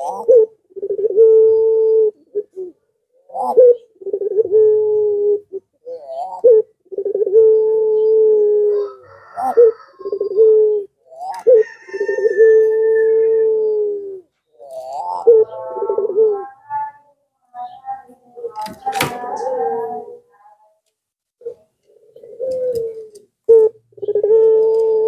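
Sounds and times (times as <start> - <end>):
dove cooing: 0.0 - 17.0, 17.6 - 20.4, 21.4 - 25.0.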